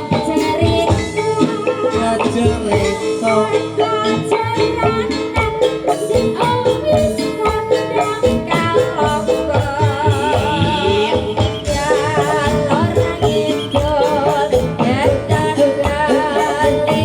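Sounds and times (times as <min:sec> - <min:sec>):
driving drum beat: 0:00.0 - 0:17.0.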